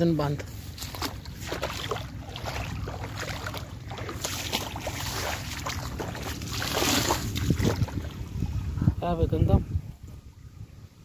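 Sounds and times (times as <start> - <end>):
wind blowing on microphone: 2.1 - 11.0.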